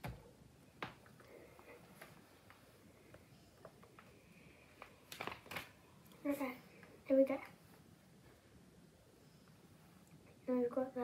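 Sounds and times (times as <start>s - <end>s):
soft rustle of hands: 0.9s - 10.4s.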